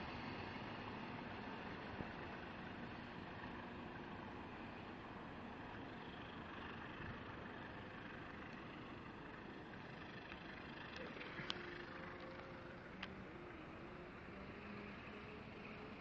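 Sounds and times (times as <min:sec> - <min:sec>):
faint rumble of moving train: 0:00.0 - 0:16.0.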